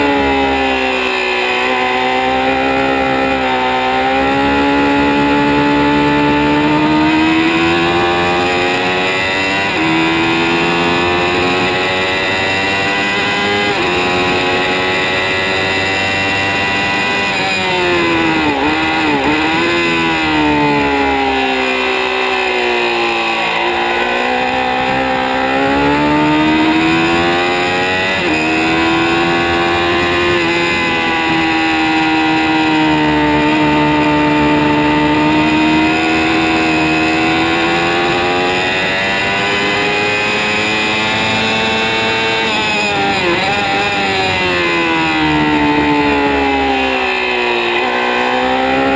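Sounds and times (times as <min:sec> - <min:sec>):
motorcycle engine revving hard: 0:00.0 - 0:48.9.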